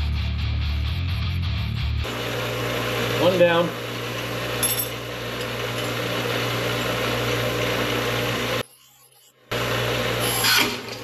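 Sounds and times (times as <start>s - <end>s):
bench grinder grinding steel: 2.1s - 11.0s.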